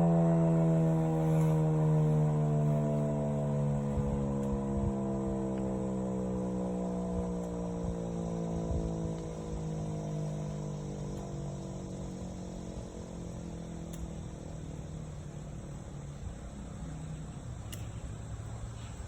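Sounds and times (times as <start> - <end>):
warning siren winding down: 0.0 - 17.4.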